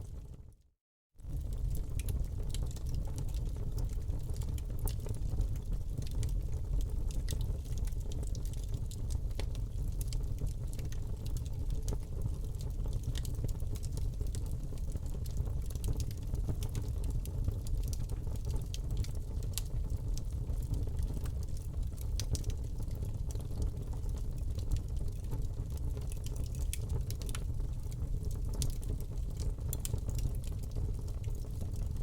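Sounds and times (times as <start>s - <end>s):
low rumble of flames: 1.2s - 32.0s
fire snaps and pops: 1.3s - 32.0s.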